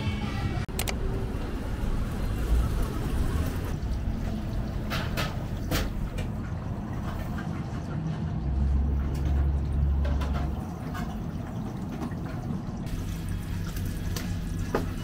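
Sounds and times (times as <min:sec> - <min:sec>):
low machine hum: 0:00.1 - 0:15.0.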